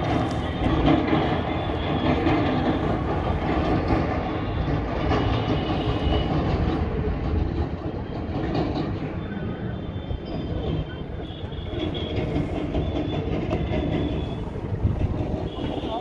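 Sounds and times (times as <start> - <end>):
moving vehicle rumbling and rattling: 0.0 - 16.0.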